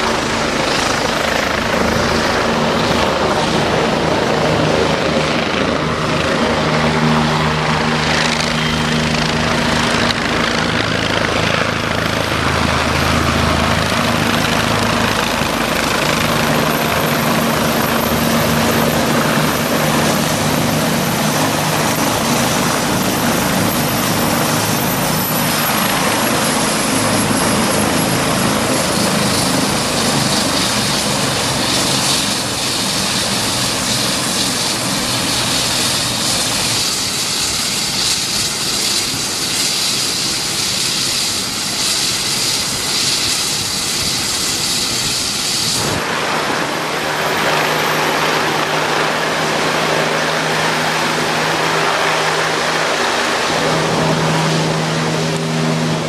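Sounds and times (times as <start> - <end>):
helicopter rotor beat: 0.0 - 56.0
high turbine whine: 0.0 - 56.0.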